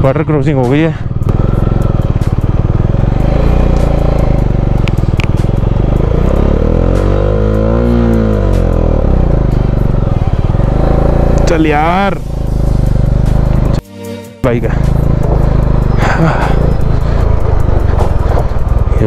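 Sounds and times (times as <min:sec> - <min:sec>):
motorcycle engine running: 0:00.0 - 0:13.8, 0:14.5 - 0:19.0.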